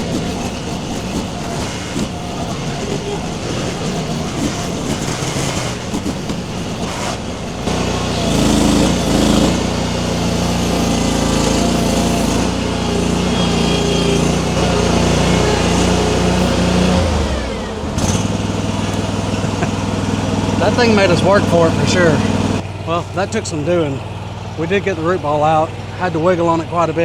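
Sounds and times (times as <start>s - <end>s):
small engine running under load: 0.0s - 27.0s.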